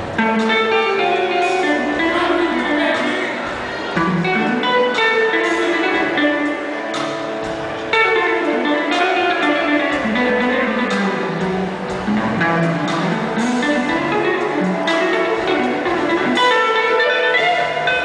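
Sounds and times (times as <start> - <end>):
electric guitar lead line: 0.0 - 18.0
keyboard backing: 0.0 - 18.0.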